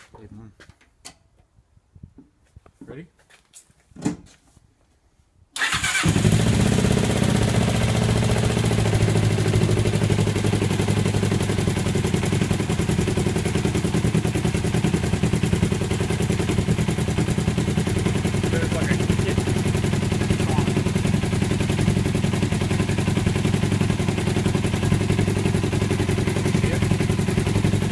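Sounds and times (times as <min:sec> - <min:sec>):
motorcycle engine starting and running: 0:05.6 - 0:27.9.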